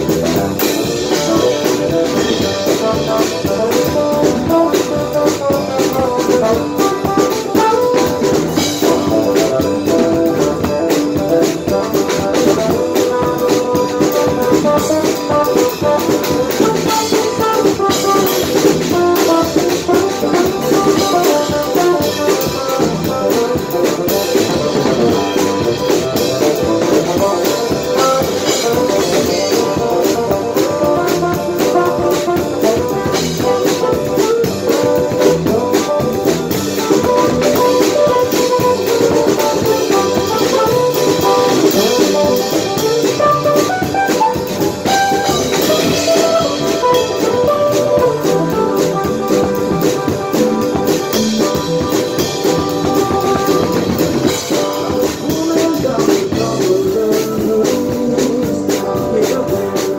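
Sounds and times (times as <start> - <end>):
sustained melodic lead: 0.0 - 56.6
drum kit beat with cymbals: 0.0 - 59.9
electric guitar: 0.0 - 59.9.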